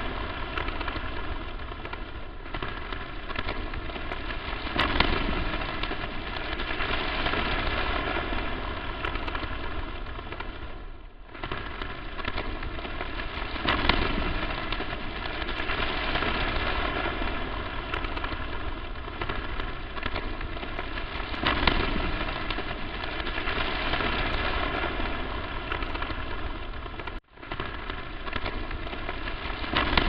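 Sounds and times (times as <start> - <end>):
crackling static hiss: 0.0 - 30.0.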